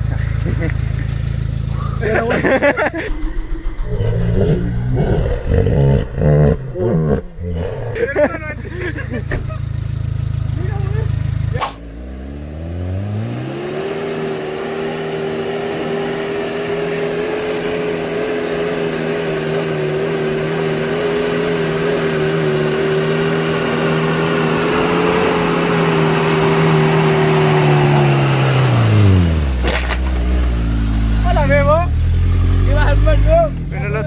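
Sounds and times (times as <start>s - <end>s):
vehicle engine revving: 0.0s - 7.2s, 8.0s - 34.0s.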